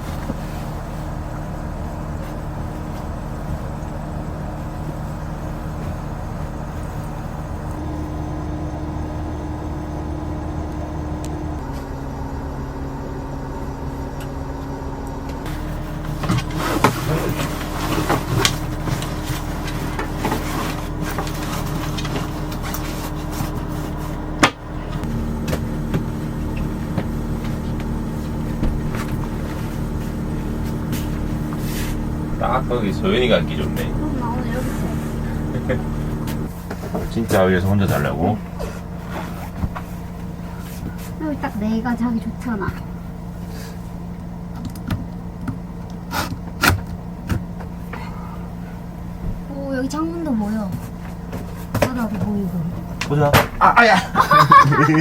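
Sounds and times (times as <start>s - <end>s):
van engine and road hum: 0.0s - 55.0s.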